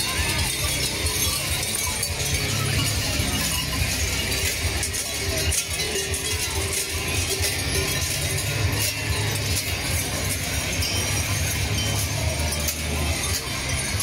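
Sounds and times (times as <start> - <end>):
costume bells clanging: 0.0 - 14.0.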